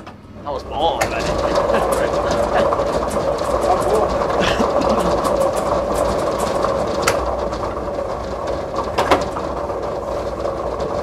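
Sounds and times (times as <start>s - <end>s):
ball machine whirr and rattle: 0.0s - 11.0s.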